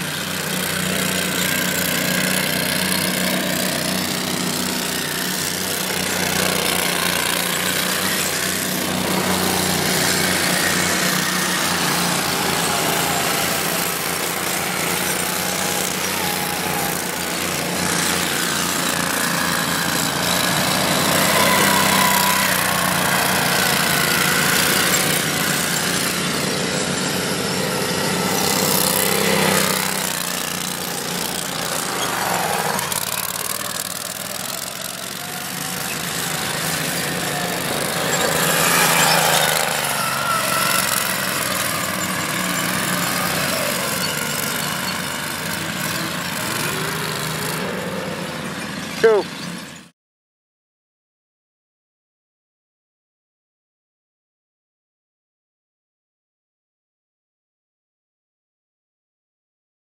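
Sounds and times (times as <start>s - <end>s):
dune buggy engine revving: 0.0s - 49.9s.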